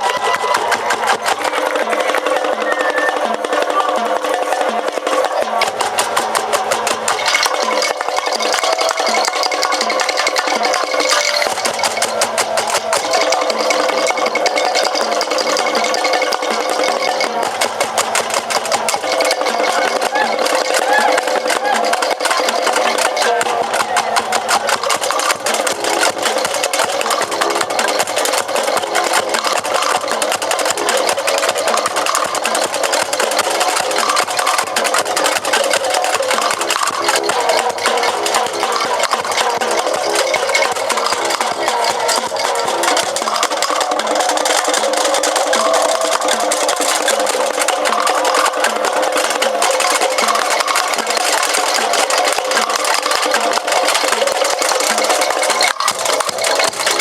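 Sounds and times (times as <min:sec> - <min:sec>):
percussion band drumming: 0:00.0 - 0:57.0
pitched tones: 0:05.3 - 0:57.0.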